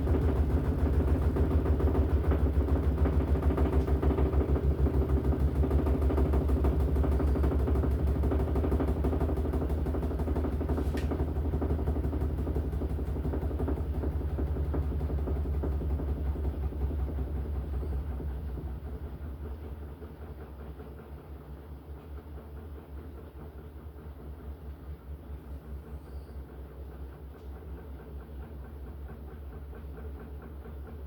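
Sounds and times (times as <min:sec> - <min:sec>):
washing machine spinning: 0:00.0 - 0:31.0.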